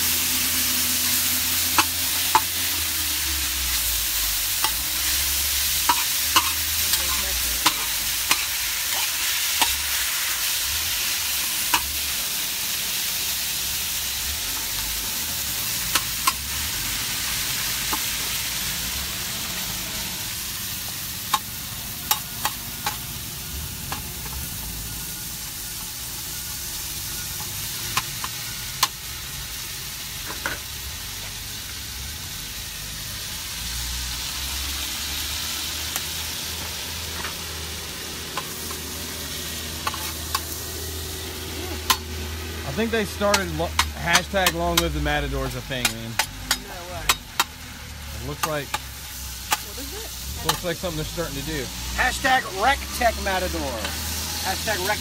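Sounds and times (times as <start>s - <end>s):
bacon sizzling in a pan: 0.0s - 55.0s.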